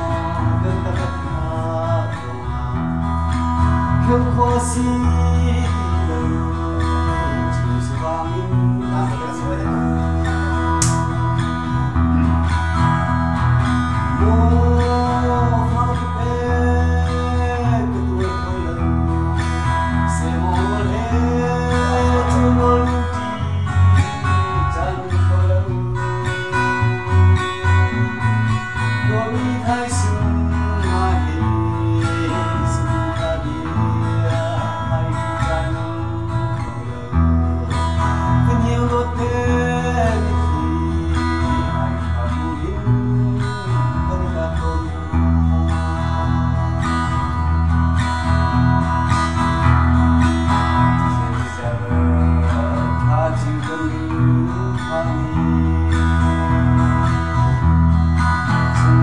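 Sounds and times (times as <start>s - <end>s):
man singing: 0.0s - 12.3s, 13.8s - 57.6s, 58.2s - 59.0s
acoustic guitars playing: 0.0s - 59.0s.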